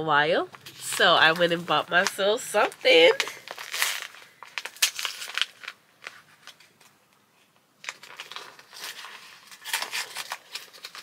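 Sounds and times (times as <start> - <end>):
packaging crinkling: 0.6 - 6.9, 7.8 - 11.0.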